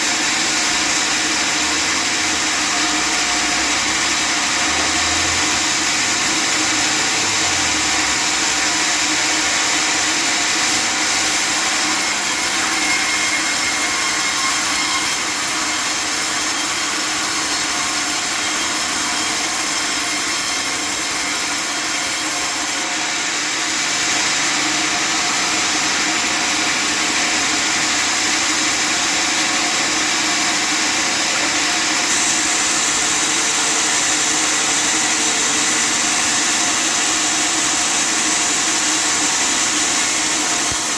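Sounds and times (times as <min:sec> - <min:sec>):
saw cutting through wood: 0:00.0 - 0:40.9.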